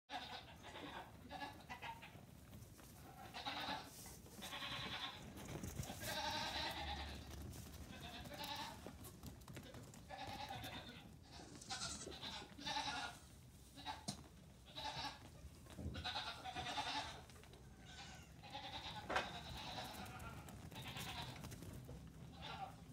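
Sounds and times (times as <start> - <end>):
goat kids bleating: 0.1 - 2.3, 2.9 - 22.9.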